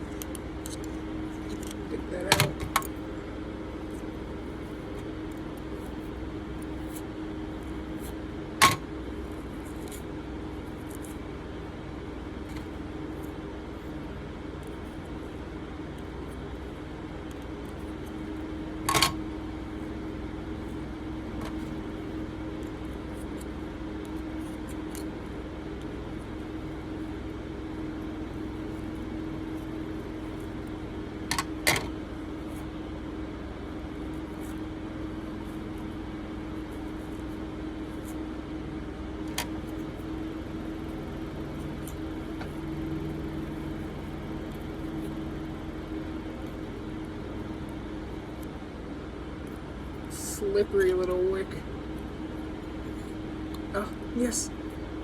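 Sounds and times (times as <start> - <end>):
room fans humming: 0.0 - 55.0.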